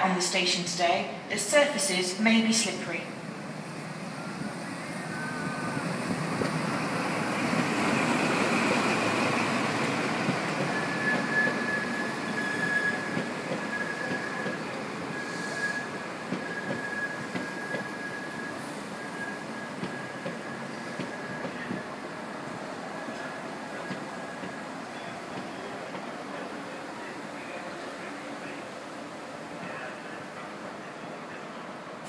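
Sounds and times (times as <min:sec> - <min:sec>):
diesel train engine: 0:01.1 - 0:32.0
train wheels on rails: 0:03.5 - 0:32.0.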